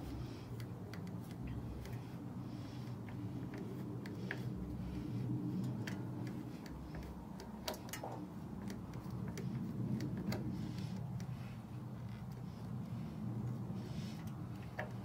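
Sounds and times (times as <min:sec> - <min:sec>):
metal trim ring clicking: 0:02.8 - 0:15.0.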